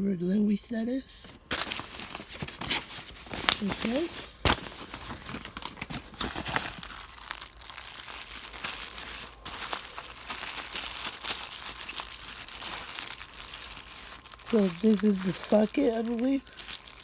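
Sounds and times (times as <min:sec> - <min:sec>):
paper and plastic crinkling: 0:01.2 - 0:17.0.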